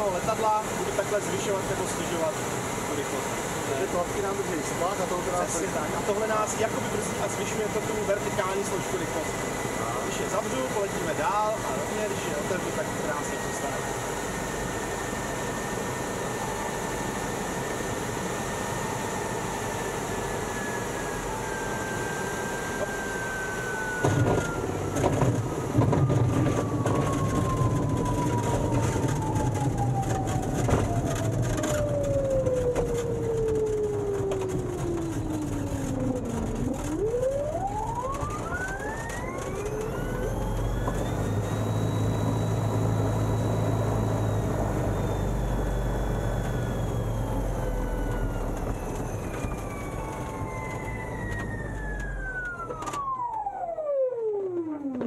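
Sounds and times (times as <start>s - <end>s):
propeller and electric motor whine: 0.0s - 55.0s.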